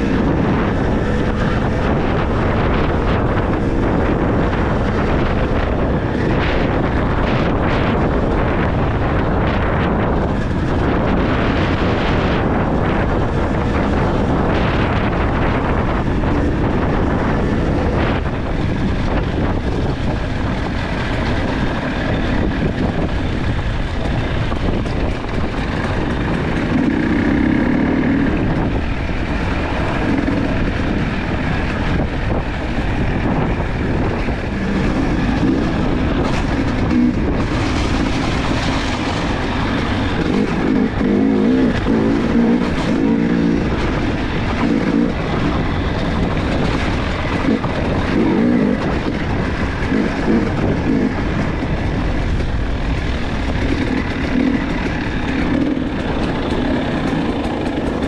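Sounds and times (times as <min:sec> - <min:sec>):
dirt bike engine running: 0:00.0 - 0:58.0
wind noise on microphone: 0:00.0 - 0:58.0.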